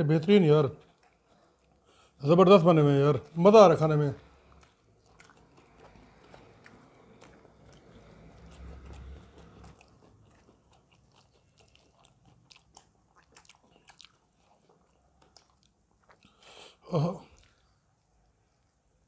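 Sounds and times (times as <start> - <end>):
chewing crispy chicken: 0.0 - 19.0.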